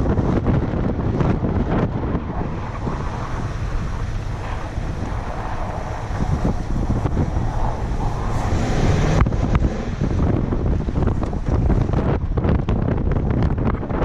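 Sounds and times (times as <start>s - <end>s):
truck rumbling through snow: 0.0s - 14.0s
wind buffeting microphone: 0.0s - 14.0s.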